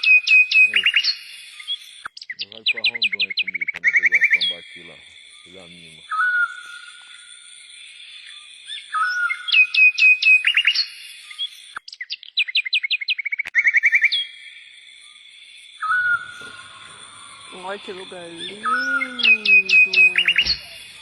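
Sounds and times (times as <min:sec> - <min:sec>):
birds singing: 0:00.0 - 0:21.0.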